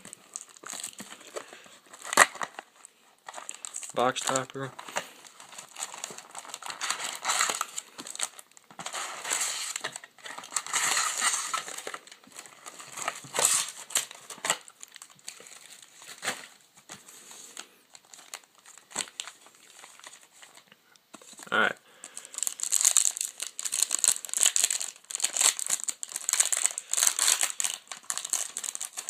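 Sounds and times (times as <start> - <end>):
foil and plastic wrapping crinkling: 0.0 - 29.0.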